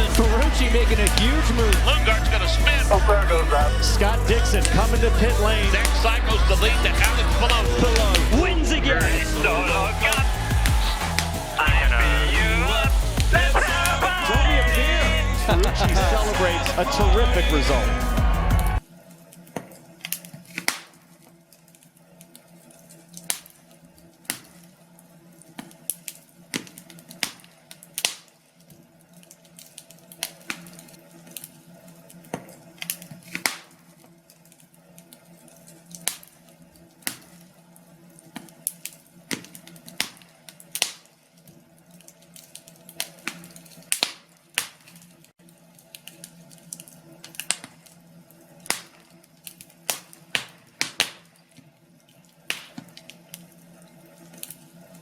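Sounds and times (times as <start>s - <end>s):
fire crackling with pops: 0.0s - 55.0s.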